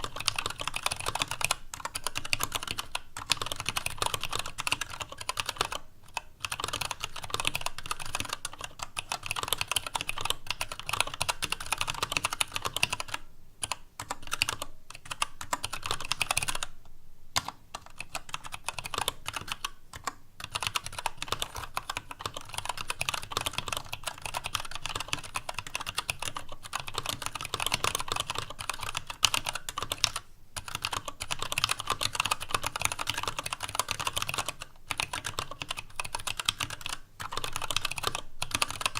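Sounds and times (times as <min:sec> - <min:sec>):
mechanical keyboard typing: 0:00.0 - 0:16.7, 0:17.4 - 0:38.9.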